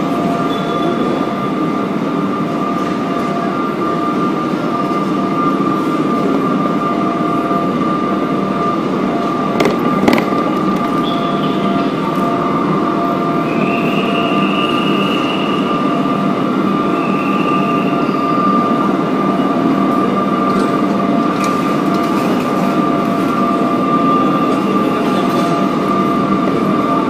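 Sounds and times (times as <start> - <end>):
trains idling noise and whine: 0.0 - 27.0.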